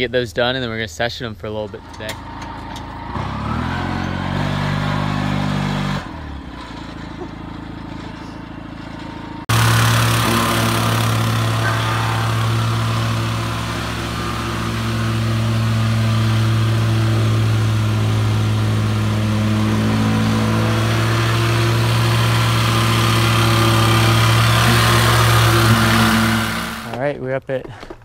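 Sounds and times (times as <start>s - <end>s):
plate compactor running: 1.7s - 27.0s.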